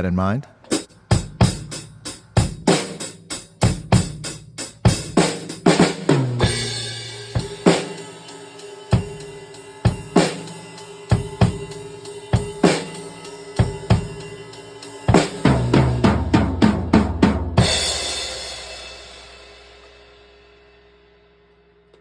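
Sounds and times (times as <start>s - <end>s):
acoustic drum kit: 0.6s - 20.2s.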